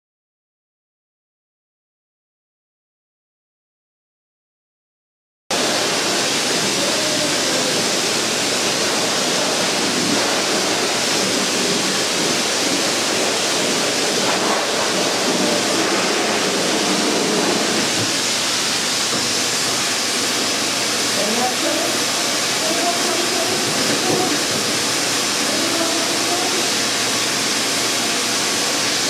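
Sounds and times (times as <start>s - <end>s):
blow dryer blowing: 5.5s - 29.0s.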